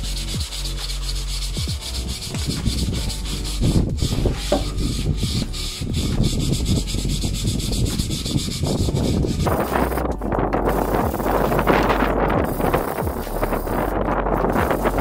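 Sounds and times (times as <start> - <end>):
sandpaper rubbing on wood: 0.0 - 15.0.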